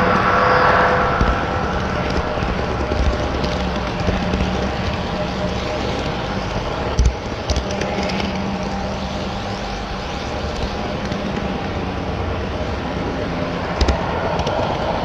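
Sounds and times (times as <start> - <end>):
model train rolling hum: 0.0 - 15.0.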